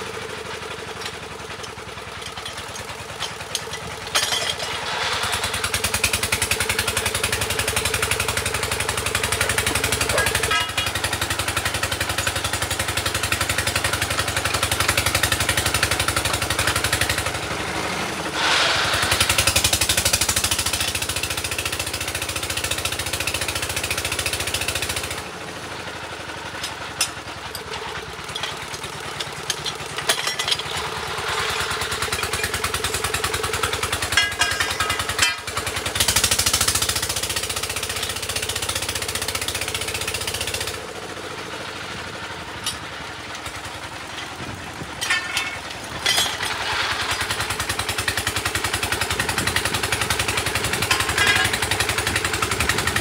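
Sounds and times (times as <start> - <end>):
drilling rig engine running: 0.0 - 53.0.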